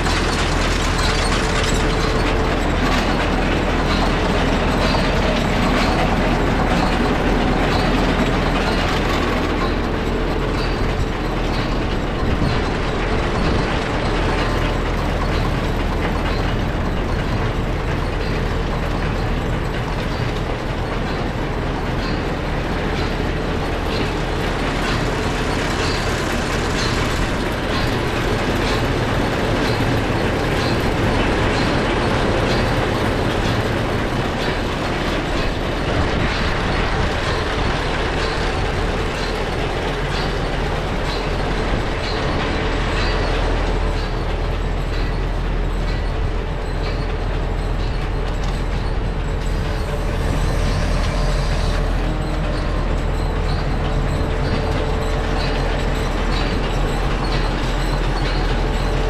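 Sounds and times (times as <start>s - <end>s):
baler mechanical clatter: 0.0s - 59.0s.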